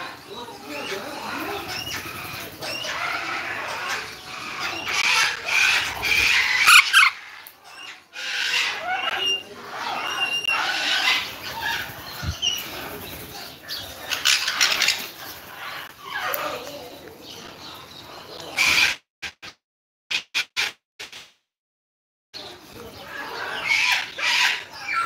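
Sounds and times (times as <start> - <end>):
birds chirping and squawking: 0.0 - 19.0, 22.4 - 25.0.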